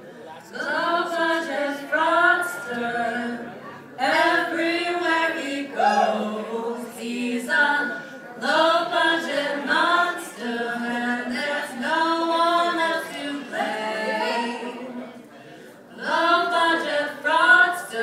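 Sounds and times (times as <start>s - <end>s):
women singing in harmony: 0.5s - 15.1s, 15.9s - 18.0s.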